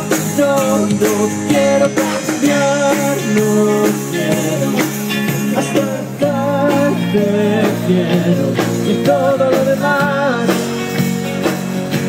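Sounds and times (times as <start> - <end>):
drums playing steady beat: 0.0 - 12.0
electric guitar: 0.0 - 12.0
rock music: 0.0 - 12.0.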